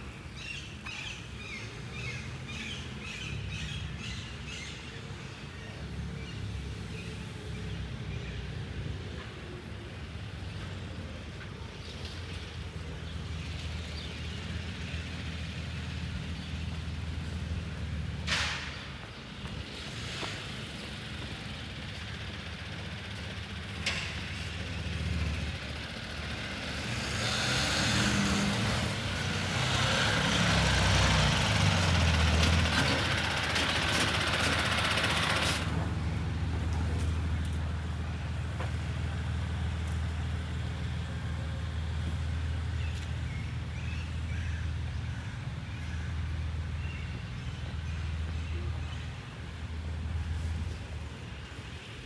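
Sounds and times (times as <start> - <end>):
heavy vehicle engine humming: 0.0 - 52.0.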